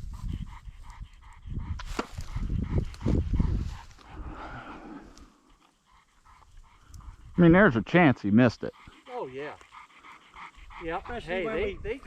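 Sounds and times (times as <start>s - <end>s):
dog panting: 0.0s - 4.5s, 5.3s - 12.0s.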